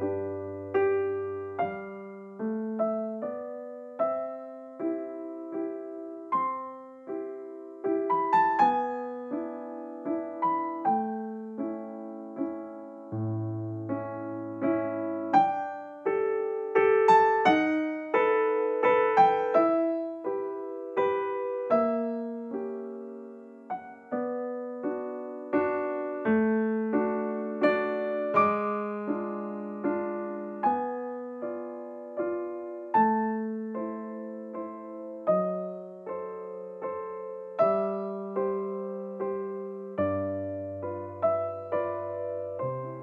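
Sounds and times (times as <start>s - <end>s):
gentle keyboard melody: 0.0s - 43.0s.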